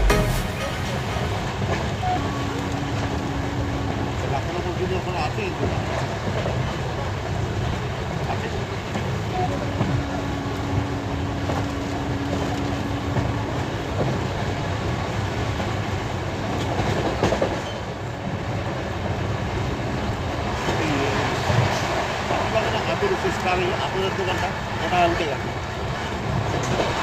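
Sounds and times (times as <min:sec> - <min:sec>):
train wheels rumbling on track: 0:00.0 - 0:27.0
clickety-clack over rail joints: 0:01.5 - 0:27.0.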